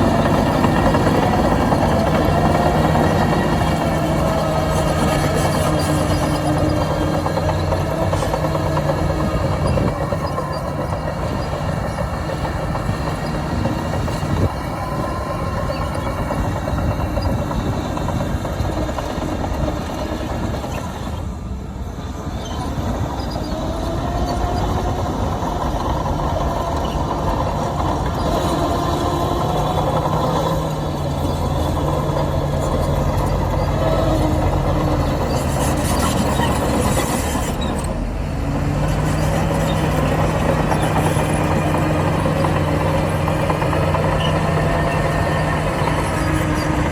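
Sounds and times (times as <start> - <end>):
diesel engines under load: 0.0 - 46.9.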